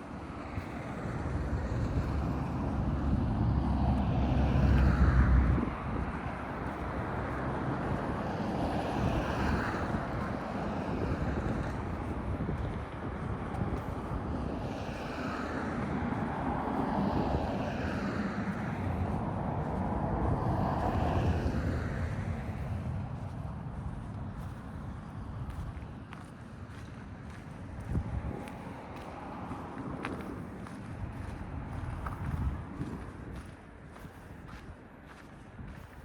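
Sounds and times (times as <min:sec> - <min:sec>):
motor traffic rumble: 0:00.0 - 0:36.0.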